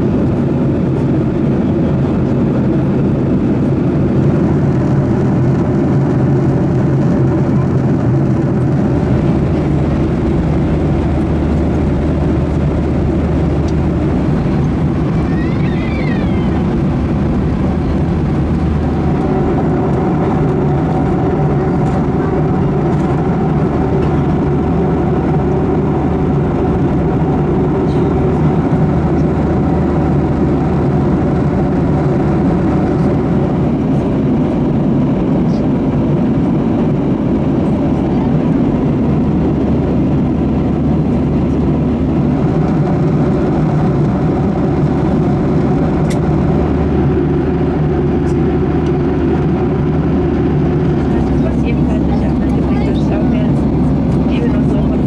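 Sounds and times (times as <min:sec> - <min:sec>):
airflow rush in cabin: 0:00.0 - 0:55.0
jet engines humming: 0:00.0 - 0:55.0.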